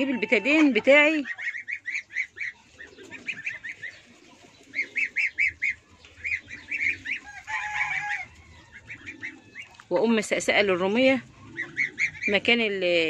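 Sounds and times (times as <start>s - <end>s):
turkey calling: 0.0s - 13.0s.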